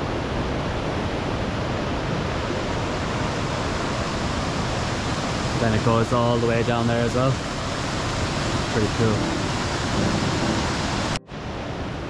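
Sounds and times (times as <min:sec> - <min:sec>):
stream rushing over rocks: 0:00.1 - 0:12.0.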